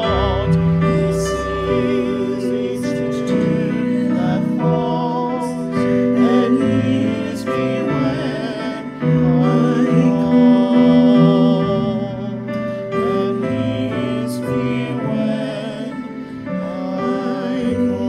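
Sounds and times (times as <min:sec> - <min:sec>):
electronic keyboard chords: 0:00.0 - 0:18.0.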